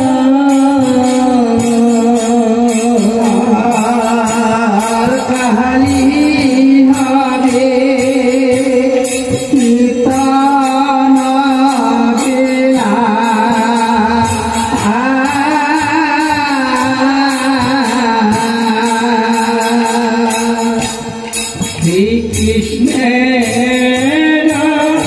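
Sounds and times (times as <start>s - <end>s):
devotional singing over loudspeakers: 0.0s - 25.0s
steady percussive beat: 0.0s - 25.0s.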